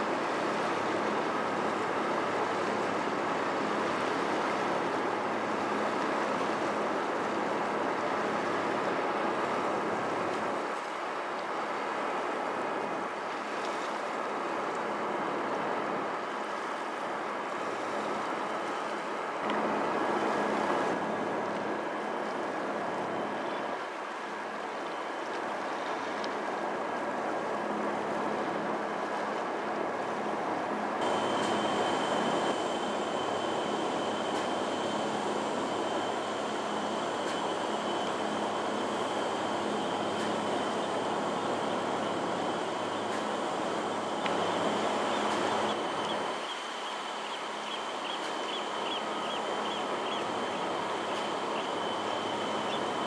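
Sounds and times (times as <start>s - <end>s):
water rushing: 0.0s - 53.0s.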